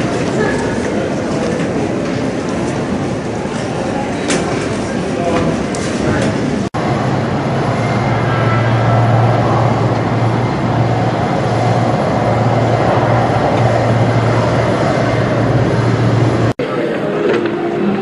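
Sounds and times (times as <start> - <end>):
even rushing noise: 0.0 - 18.0
steady low hum: 0.0 - 18.0.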